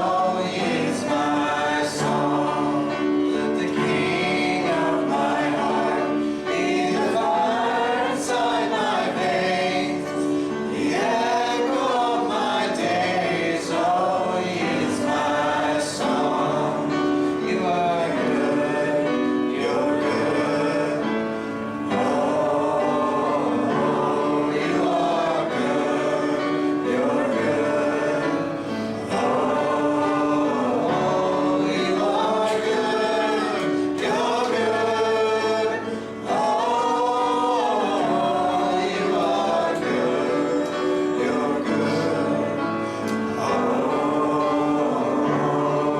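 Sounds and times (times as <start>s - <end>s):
choir singing a hymn: 0.0s - 45.9s
held instrumental accompaniment: 0.0s - 45.9s.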